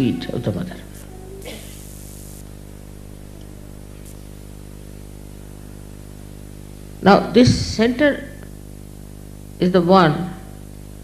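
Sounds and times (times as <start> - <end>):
constant hiss: 0.0 - 11.0
electrical hum: 0.0 - 11.0.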